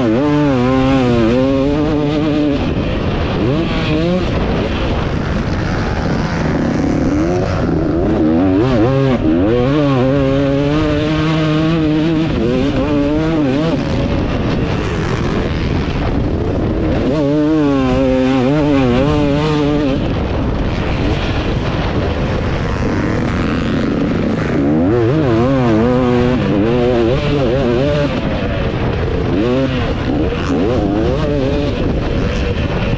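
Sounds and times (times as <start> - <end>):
motocross bike engine revving: 0.0 - 32.9
wind rushing over microphone: 0.0 - 32.9.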